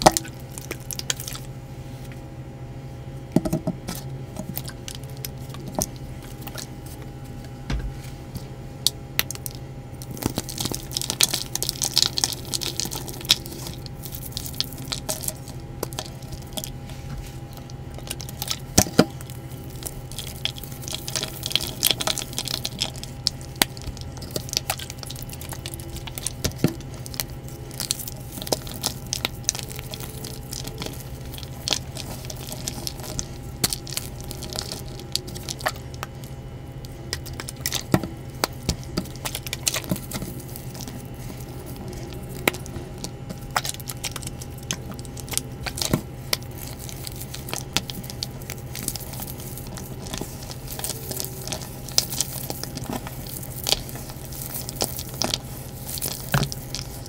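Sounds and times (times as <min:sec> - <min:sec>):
steady low hum: 0:00.0 - 0:57.0
hands crushing chalk block: 0:08.9 - 0:57.0.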